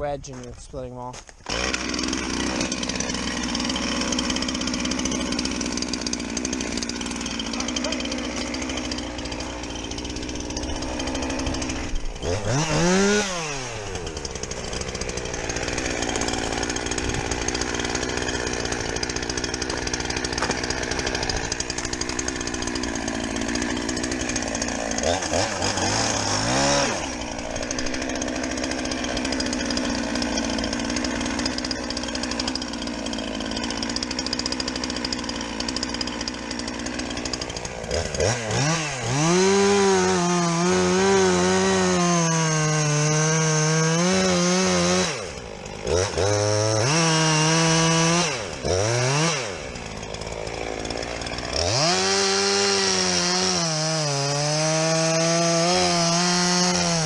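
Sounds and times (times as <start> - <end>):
chainsaw cutting wood: 0.2 - 57.0.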